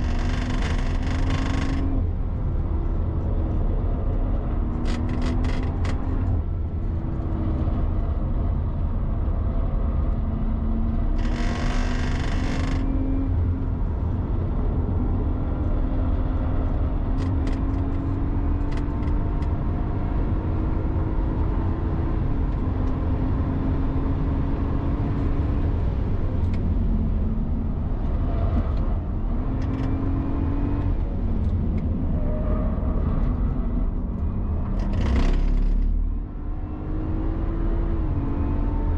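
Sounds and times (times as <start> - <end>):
road and wind rumble: 0.0 - 38.9.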